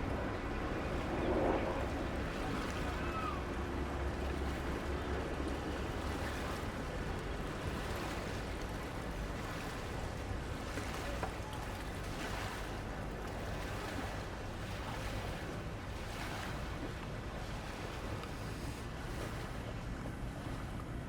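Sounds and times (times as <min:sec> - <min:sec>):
boat engine rumbling: 0:00.0 - 0:21.0
river water washing: 0:00.0 - 0:21.0.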